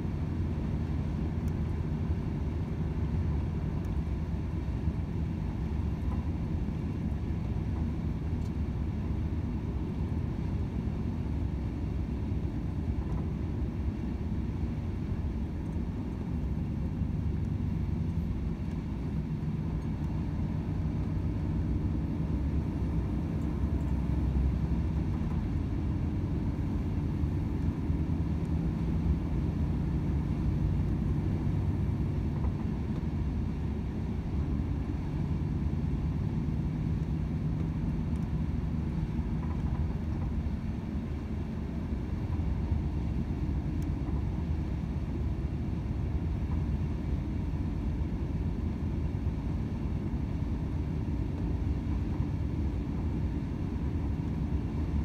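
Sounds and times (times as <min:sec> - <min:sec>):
diesel truck engine drone: 0:00.0 - 0:55.0
road rumble: 0:00.0 - 0:55.0.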